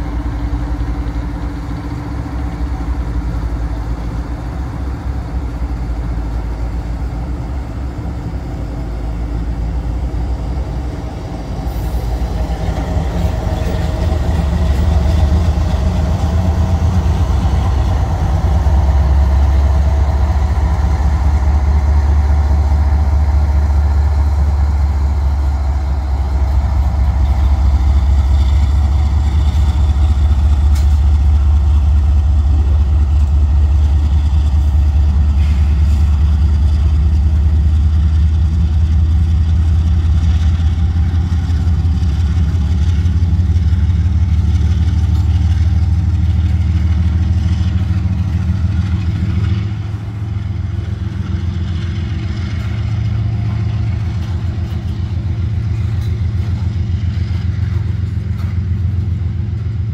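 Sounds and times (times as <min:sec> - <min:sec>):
freight train rumbling past: 0:00.0 - 0:59.9
train wheel clatter: 0:09.0 - 0:59.9.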